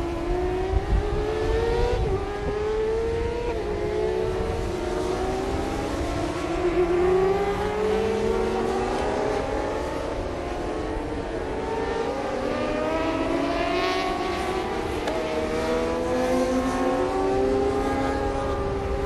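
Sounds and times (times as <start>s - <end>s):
racing motorcycle engines revving: 0.0s - 19.0s.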